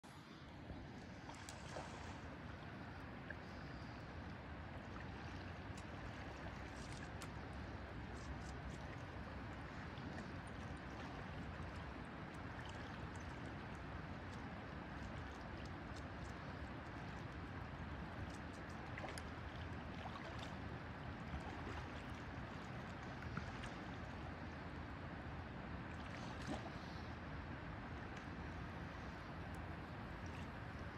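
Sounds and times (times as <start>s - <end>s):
faint ticks of water: 0.1s - 30.9s.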